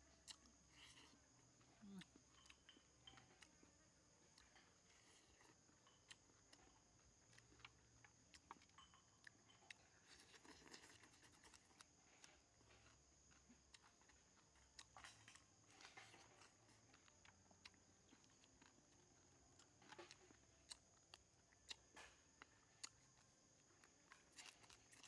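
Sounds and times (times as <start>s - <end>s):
chewing and lip smacks: 0.2s - 1.2s, 4.2s - 25.0s.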